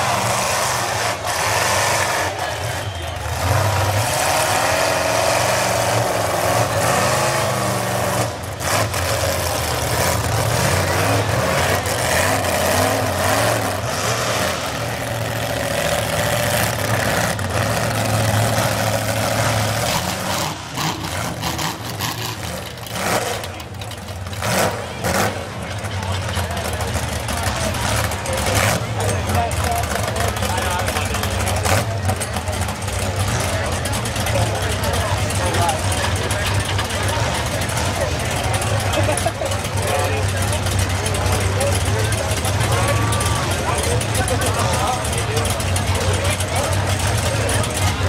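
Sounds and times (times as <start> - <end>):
truck engines revving: 0.0 - 48.0.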